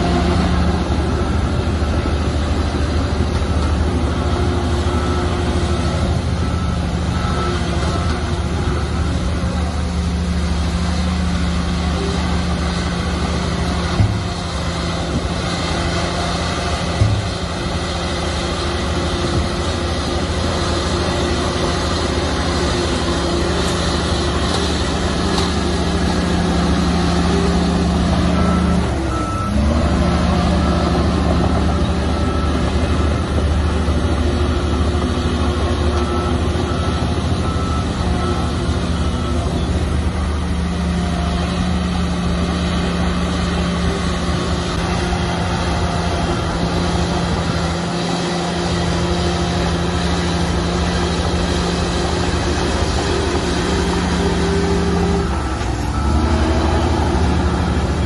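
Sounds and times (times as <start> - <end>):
diesel earthmoving machinery running: 0.0 - 58.0
reversing alarm beeps: 0.1 - 58.0.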